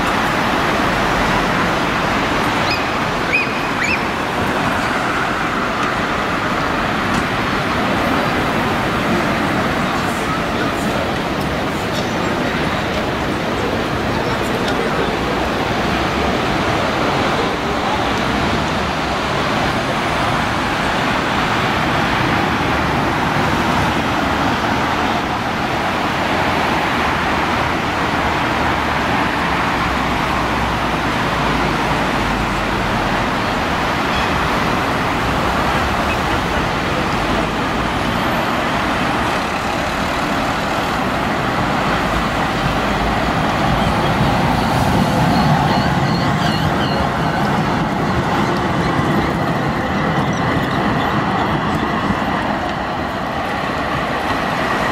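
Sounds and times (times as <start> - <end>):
street traffic noise: 0.0 - 54.9
tram on tracks: 0.0 - 54.9.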